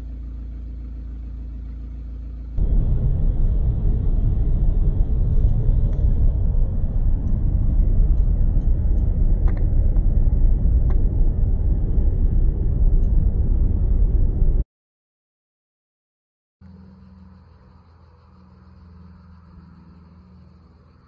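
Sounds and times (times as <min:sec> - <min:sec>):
road and wind noise in car: 0:00.0 - 0:14.6, 0:16.7 - 0:21.0.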